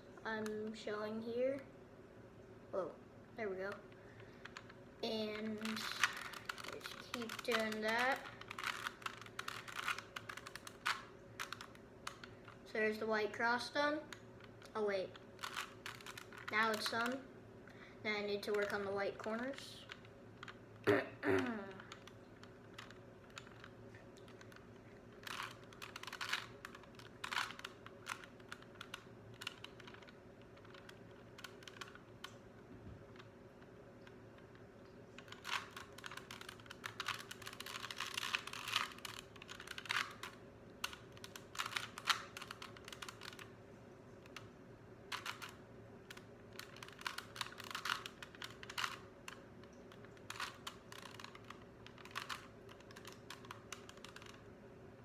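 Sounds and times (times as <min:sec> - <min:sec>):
puzzle cube clicking as turned: 0:03.7 - 0:12.7, 0:14.0 - 0:17.2, 0:18.4 - 0:20.6, 0:21.7 - 0:32.4, 0:33.1 - 0:43.6, 0:44.2 - 0:44.5, 0:45.1 - 0:54.5.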